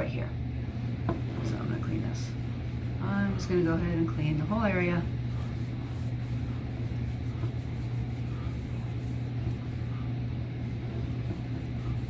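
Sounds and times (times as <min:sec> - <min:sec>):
steady low hum: 0:00.0 - 0:12.0
wipe rubbing on helmet shell: 0:01.4 - 0:12.0.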